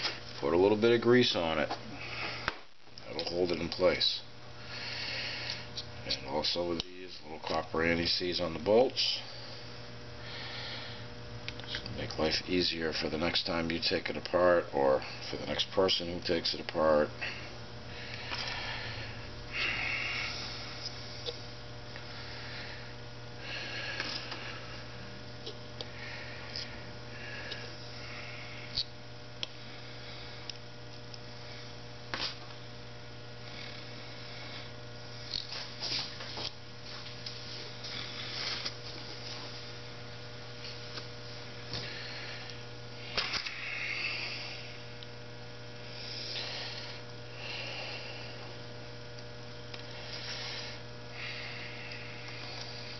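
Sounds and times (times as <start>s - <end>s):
electrical mains hum: 0.0s - 52.9s.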